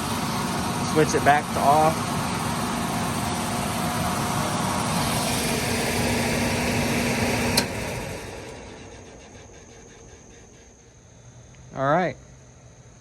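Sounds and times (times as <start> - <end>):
furnace blower fan running: 0.0 - 13.0.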